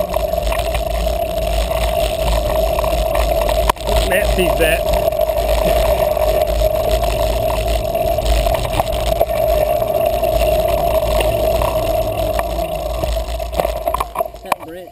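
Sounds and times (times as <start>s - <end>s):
bike clicks and rattles: 0.0s - 14.9s
bike tyres humming on dirt: 0.0s - 14.9s
wind rumble: 0.0s - 14.9s.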